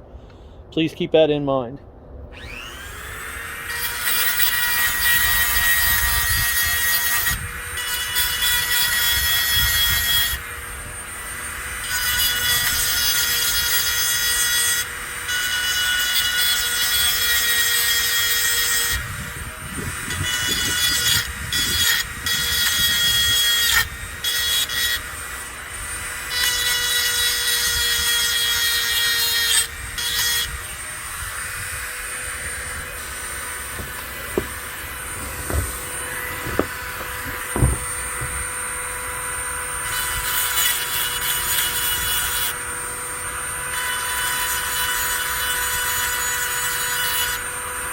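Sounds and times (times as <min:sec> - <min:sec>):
rotary tool whining: 0:02.3 - 0:47.9.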